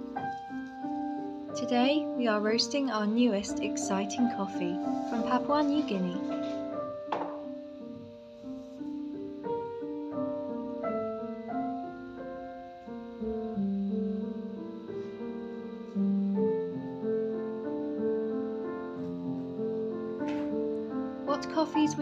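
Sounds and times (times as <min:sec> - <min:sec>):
slow solo piano music: 0:00.0 - 0:02.7, 0:03.4 - 0:22.0.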